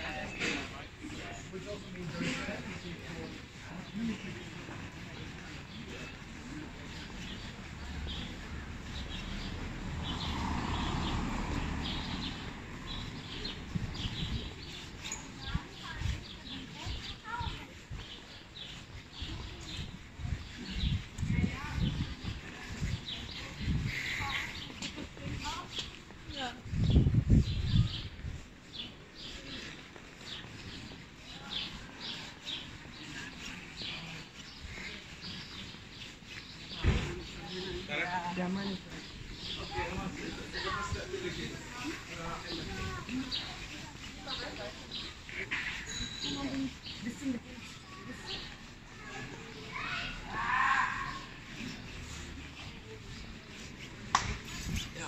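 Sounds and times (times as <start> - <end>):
small birds chirping: 0.0 - 55.0
low traffic hum: 0.2 - 17.7, 18.3 - 55.0.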